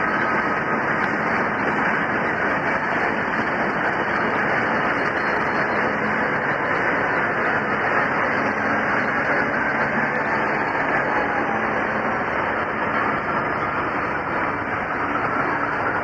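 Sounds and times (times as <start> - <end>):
diesel locomotives under load: 0.0 - 16.0
train wagons rolling on track: 0.0 - 16.0.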